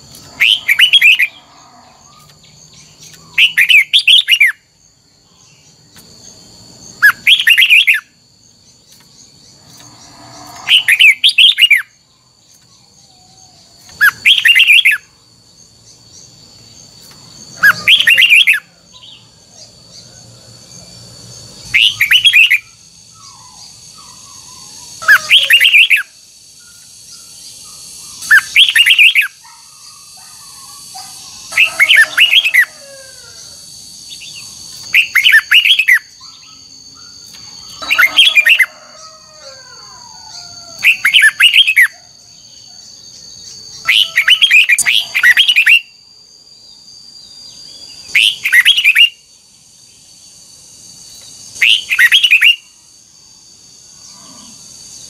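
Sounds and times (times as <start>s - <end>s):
bird singing song phrases: 0.0s - 33.1s, 34.0s - 38.8s, 40.1s - 46.0s, 46.6s - 49.3s, 51.1s - 52.7s.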